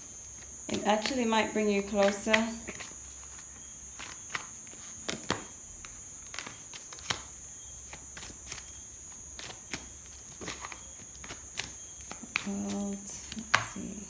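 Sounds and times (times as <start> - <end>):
cards clicking and snapping: 0.4 - 13.8.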